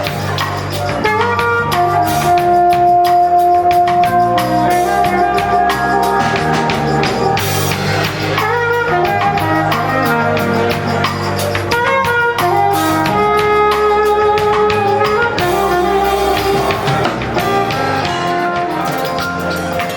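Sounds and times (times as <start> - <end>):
drum kit beat: 0.0 - 19.9
guitar: 0.0 - 19.9
wind instruments: 0.0 - 19.9.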